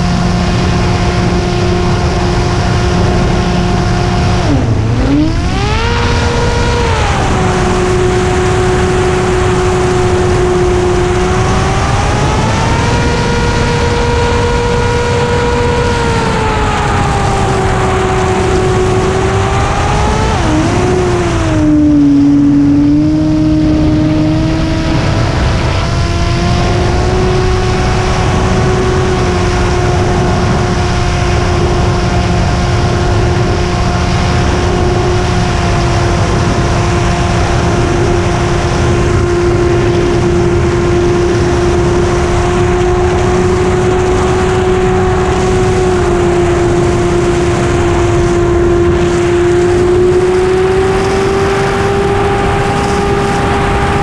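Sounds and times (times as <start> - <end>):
dense low rush: 0.0 - 54.0
model airplane engine and propeller: 0.0 - 54.0.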